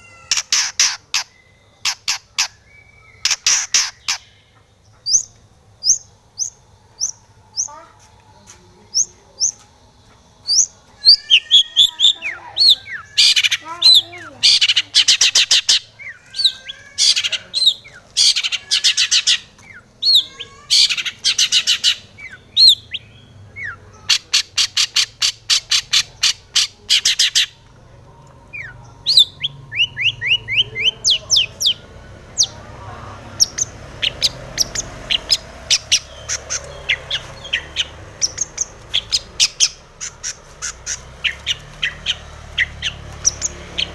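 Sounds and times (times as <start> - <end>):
shrike singing rattling trills: 0.2 - 27.6, 28.4 - 43.9.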